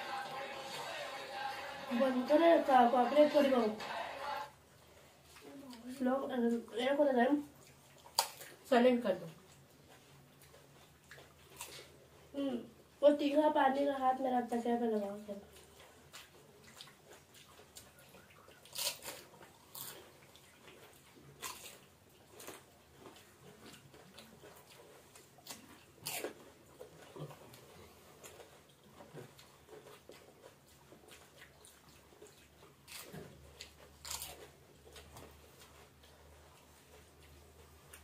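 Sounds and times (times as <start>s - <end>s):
soft chewing: 0.0s - 38.0s.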